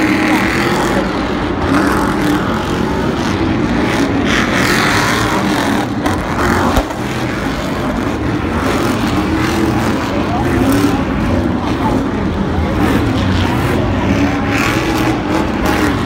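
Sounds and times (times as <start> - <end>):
truck engines racing: 0.0 - 16.0.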